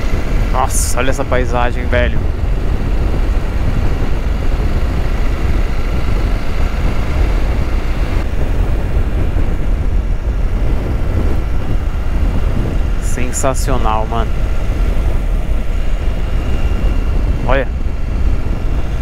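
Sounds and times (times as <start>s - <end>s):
faint steady whine: 0.0s - 19.0s
motorcycle engine and road noise: 0.0s - 19.0s
wind on microphone: 0.0s - 19.0s.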